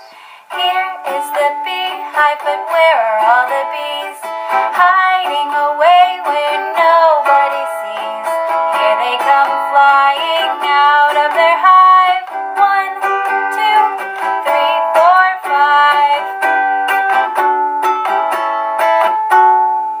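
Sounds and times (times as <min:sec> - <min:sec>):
children's song sung: 0:00.0 - 0:16.5
ukulele accompaniment: 0:00.0 - 0:20.0.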